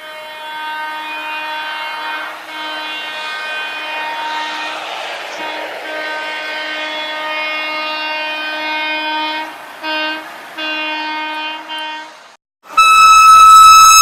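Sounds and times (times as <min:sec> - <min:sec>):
passing train rumble: 0:00.0 - 0:14.0
train horn blasts: 0:00.0 - 0:14.0.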